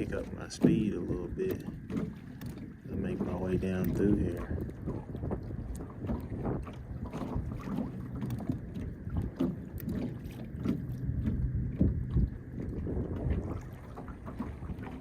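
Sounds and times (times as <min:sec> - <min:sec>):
waves slapping boat hull: 0:00.0 - 0:15.0
wind buffeting microphone: 0:00.0 - 0:15.0.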